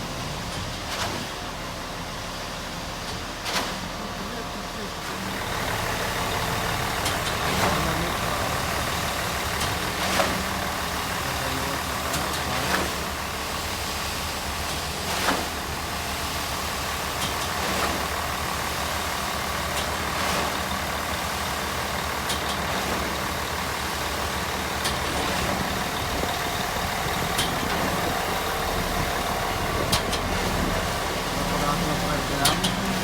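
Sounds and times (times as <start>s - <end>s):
concrete mixer truck engine idling: 0.0s - 33.0s.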